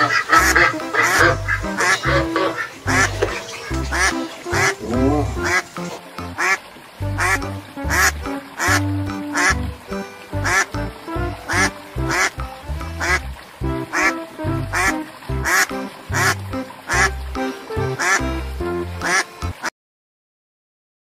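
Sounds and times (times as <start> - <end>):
ducks quacking: 0.0 - 19.7.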